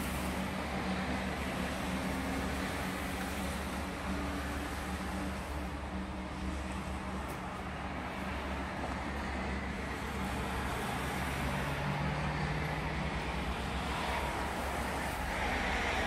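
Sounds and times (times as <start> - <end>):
train rumbling and hissing: 0.0 - 16.0.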